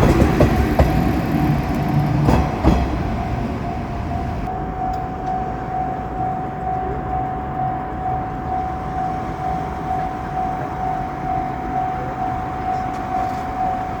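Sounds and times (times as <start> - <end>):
level crossing warning bell: 0.0 - 14.0.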